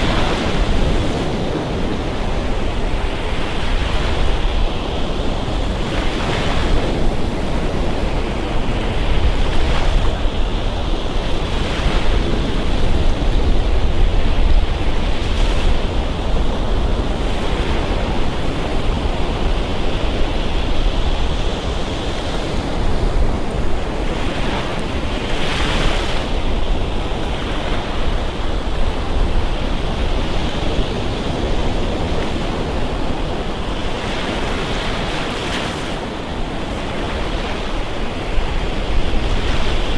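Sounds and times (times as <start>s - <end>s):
surf breaking on a beach: 0.0s - 39.9s
wind rumble on microphone: 0.0s - 39.9s.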